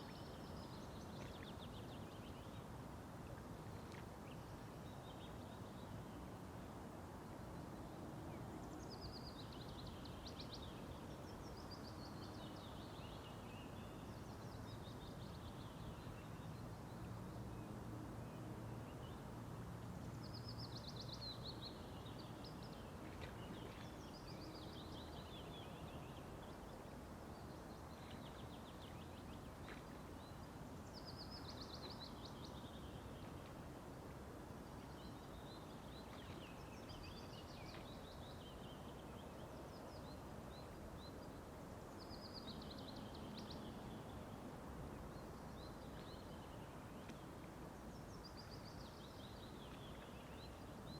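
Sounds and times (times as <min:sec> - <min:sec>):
songbird singing: 0:00.0 - 0:06.4, 0:07.3 - 0:50.9
low background noise: 0:00.0 - 0:50.9.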